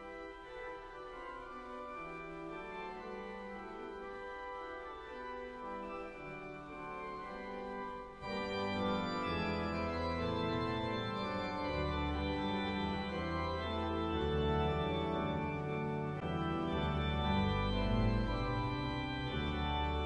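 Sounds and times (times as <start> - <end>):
organ playing slow chords: 0.0 - 20.0.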